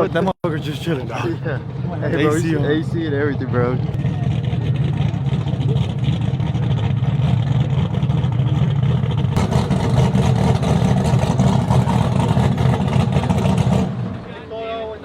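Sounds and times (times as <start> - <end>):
truck engine idling loudly: 0.5 - 15.0.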